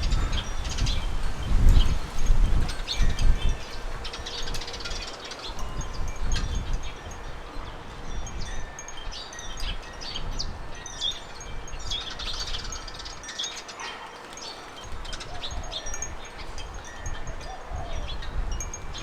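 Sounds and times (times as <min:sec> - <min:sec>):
wind on microphone: 0:00.0 - 0:13.3, 0:14.8 - 0:19.0
small birds chirping: 0:00.0 - 0:19.0.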